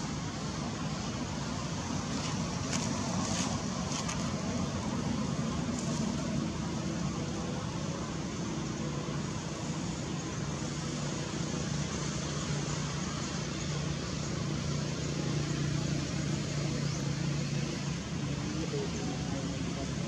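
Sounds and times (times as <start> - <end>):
low even outdoor hum: 0.0 - 20.0.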